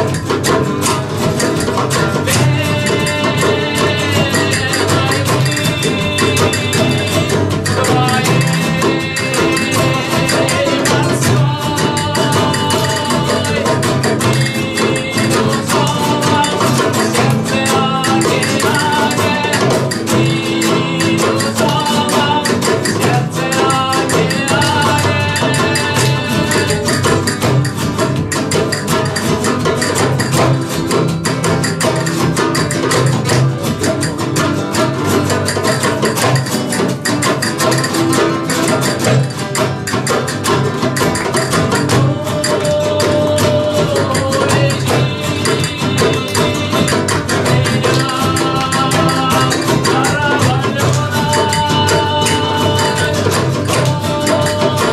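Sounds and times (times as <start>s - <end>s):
acoustic guitars strumming: 0.0s - 54.9s
hand drum: 0.0s - 54.9s
sharp percussive strokes: 0.0s - 54.9s.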